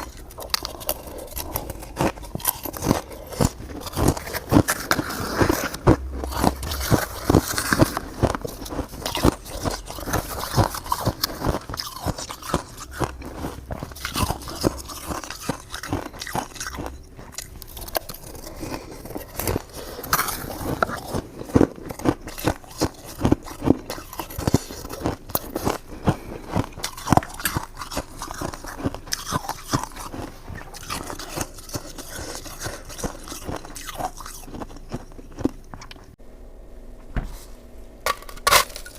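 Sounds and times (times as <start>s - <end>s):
ice being chewed: 0.0s - 36.2s.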